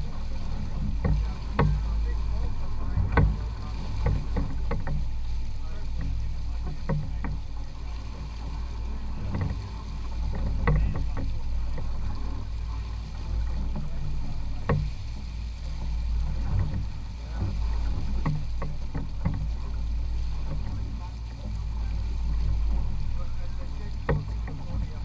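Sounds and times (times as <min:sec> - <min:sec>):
boat engine drone: 0:00.0 - 0:25.0
water splashing against hull: 0:00.0 - 0:25.0.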